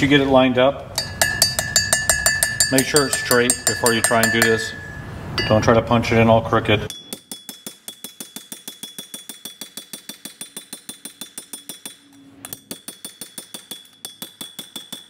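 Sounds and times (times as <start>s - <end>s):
hammer tapping metal: 0.9s - 5.8s, 6.9s - 15.0s.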